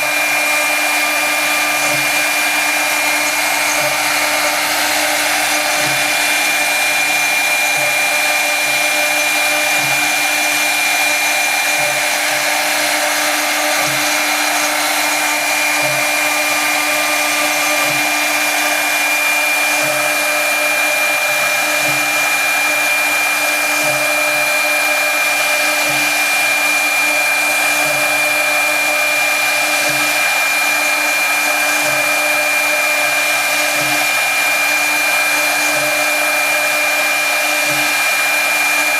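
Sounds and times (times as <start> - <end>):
router spindle whine and hiss: 0.0 - 38.9.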